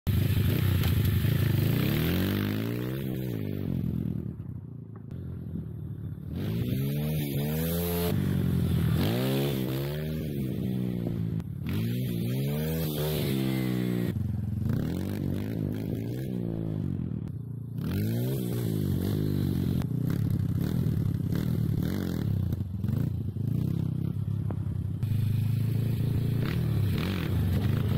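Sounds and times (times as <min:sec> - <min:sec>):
motorcycle engine revving: 0:00.1 - 0:27.9.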